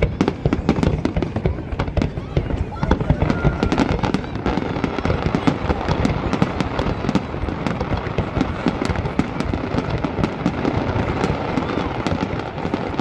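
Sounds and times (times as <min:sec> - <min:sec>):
fireworks bangs and crackling pops: 0:00.0 - 0:13.0.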